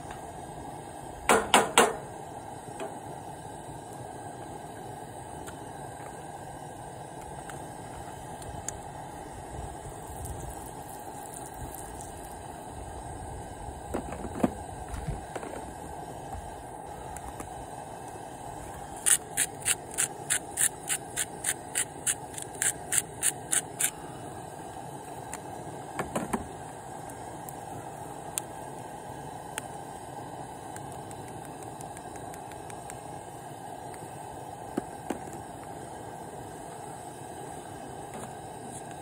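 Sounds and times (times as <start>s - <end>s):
broth simmering hiss: 0.0s - 39.0s.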